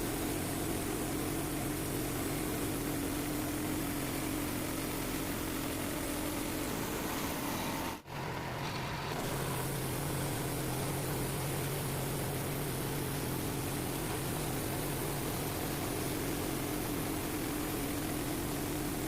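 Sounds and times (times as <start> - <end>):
sawmill engine running: 0.0 - 19.0.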